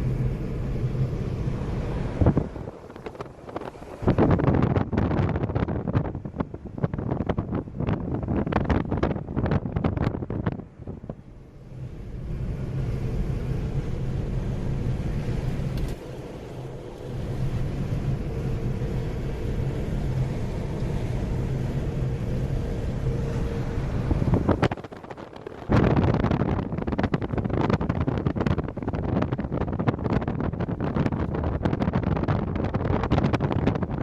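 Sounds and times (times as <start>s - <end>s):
low mechanical hum: 0.0s - 34.0s
wind noise on microphone: 0.0s - 34.0s.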